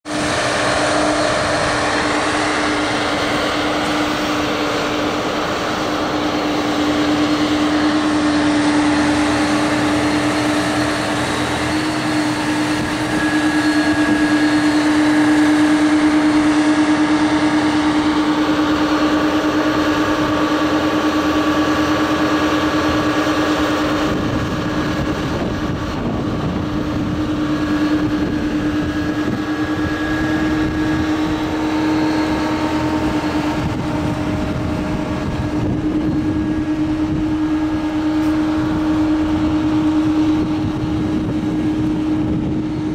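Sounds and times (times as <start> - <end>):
diesel tractor engine humming: 0.1 - 42.9.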